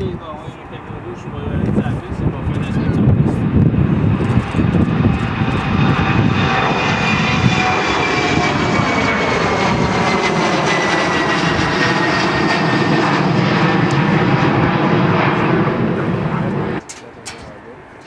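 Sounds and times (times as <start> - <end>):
airliner engines passing: 0.0 - 18.0.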